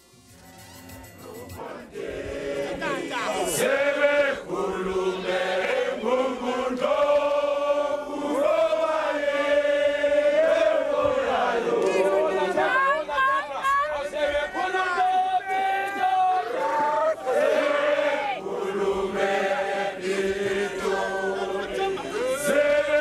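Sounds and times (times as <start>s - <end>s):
crowd of men singing: 1.2s - 23.0s.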